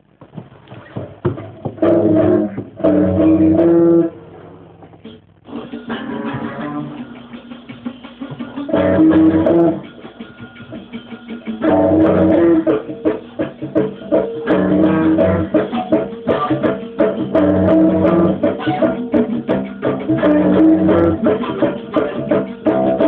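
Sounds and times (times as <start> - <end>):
electric bass guitar riff: 1.2 - 7.3, 8.3 - 10.3, 11.4 - 23.0.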